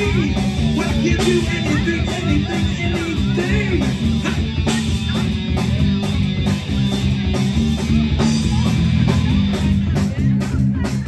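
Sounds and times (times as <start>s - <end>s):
bass guitar: 0.0s - 11.0s
drums steady beat: 0.0s - 11.0s.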